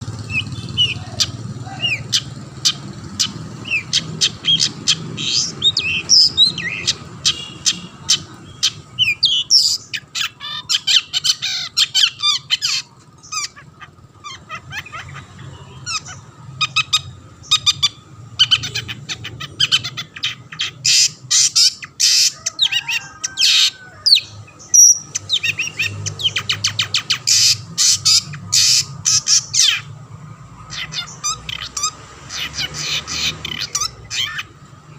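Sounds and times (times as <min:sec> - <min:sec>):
shrike singing harsh chatter: 0:00.0 - 0:34.9.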